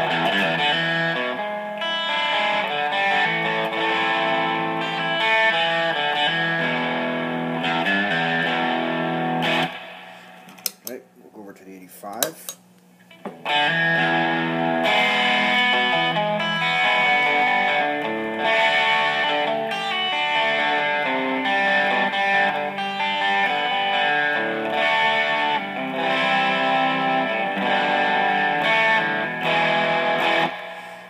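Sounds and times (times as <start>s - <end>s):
distorted electric guitar chords: 0.0s - 10.8s, 13.1s - 31.0s.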